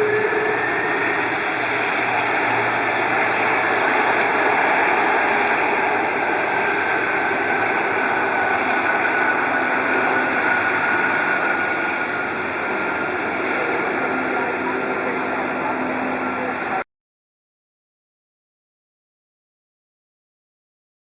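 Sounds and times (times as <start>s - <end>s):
jet engines running: 0.0s - 16.9s.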